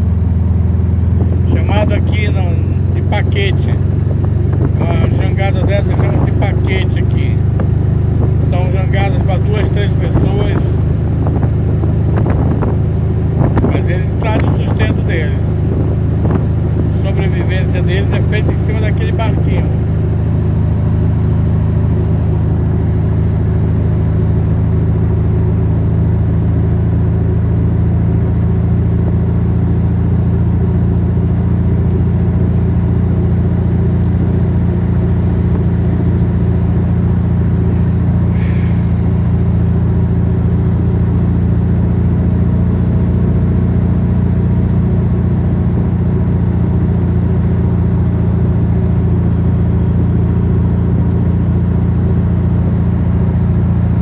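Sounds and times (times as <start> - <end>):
vehicle engine droning: 0.0 - 54.0.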